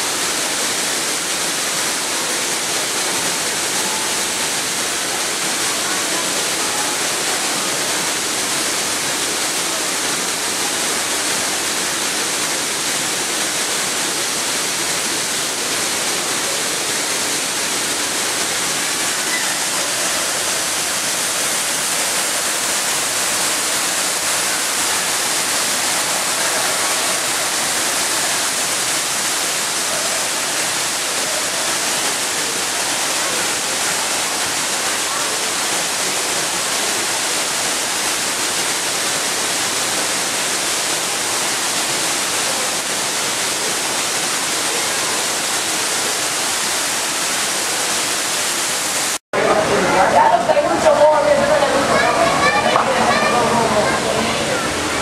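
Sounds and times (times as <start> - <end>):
faint voices: 0.0 - 38.9, 49.4 - 55.0
waterfall rushing: 0.0 - 55.0.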